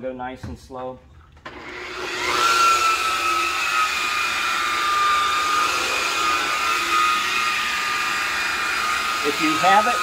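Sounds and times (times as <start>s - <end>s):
polisher motor whine: 1.5s - 10.0s.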